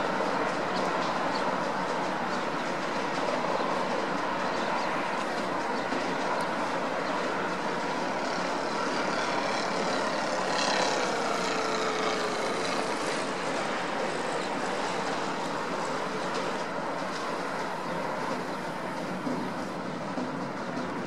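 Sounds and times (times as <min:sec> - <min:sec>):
helicopter in flight: 0:00.0 - 0:21.0
light aircraft engines: 0:00.0 - 0:21.0.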